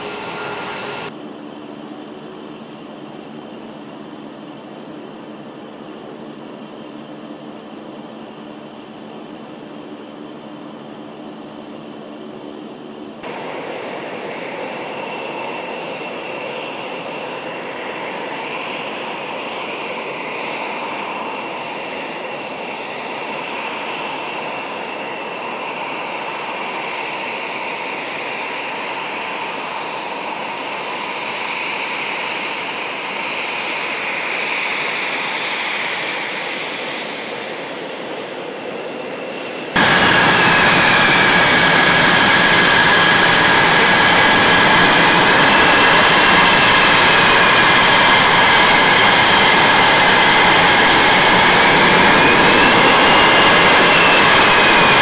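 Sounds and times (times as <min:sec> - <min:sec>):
jet engine roar with turbine whine: 0:00.0 - 0:55.0.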